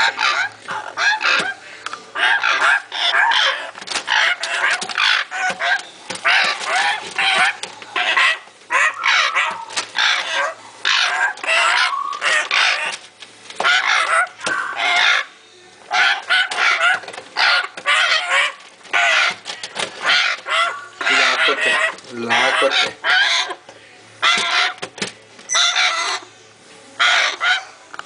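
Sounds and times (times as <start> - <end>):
parrot chicks raspy calls: 0.0 - 23.6, 24.2 - 26.4, 27.0 - 27.8.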